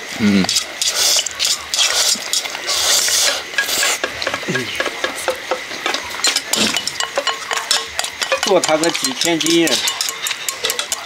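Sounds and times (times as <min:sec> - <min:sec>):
chopsticks clicking against bowls: 0:00.4 - 0:11.0.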